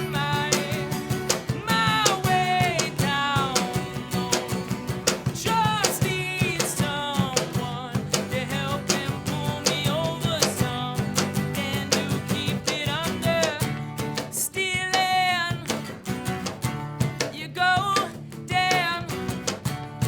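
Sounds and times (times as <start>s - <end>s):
person singing lead vocal: 0.0s - 15.9s, 17.3s - 19.4s
drum kit: 0.0s - 20.0s
guitars: 0.0s - 20.0s.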